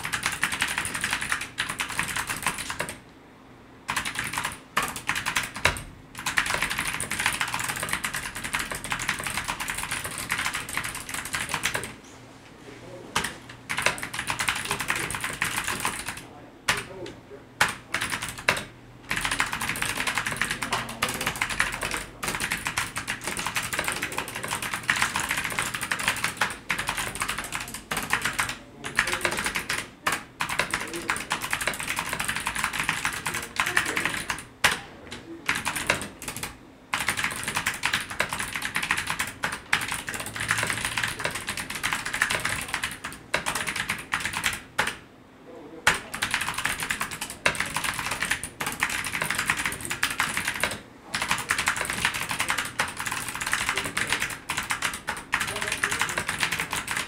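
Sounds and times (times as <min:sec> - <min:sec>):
mechanical keyboard typing clicks: 0:00.0 - 0:03.0, 0:03.9 - 0:12.0, 0:13.2 - 0:16.9, 0:17.6 - 0:34.8, 0:35.5 - 0:45.0, 0:45.9 - 0:57.0.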